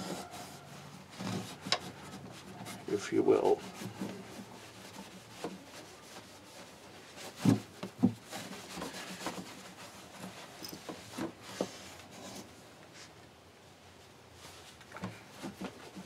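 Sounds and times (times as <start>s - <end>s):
cloth rubbing on guitar body: 0.0s - 13.2s, 13.8s - 16.0s.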